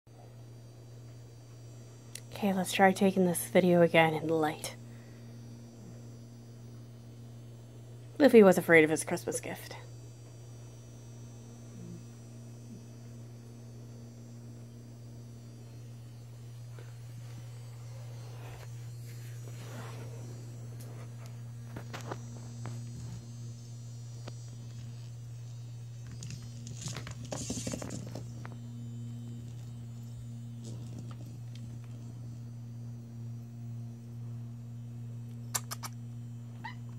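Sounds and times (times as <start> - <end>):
low electric hum: 0.1 - 36.9.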